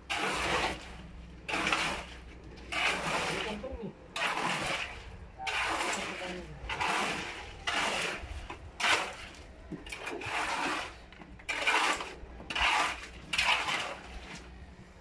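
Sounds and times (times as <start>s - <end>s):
shovel scraping wet concrete: 0.0s - 15.0s.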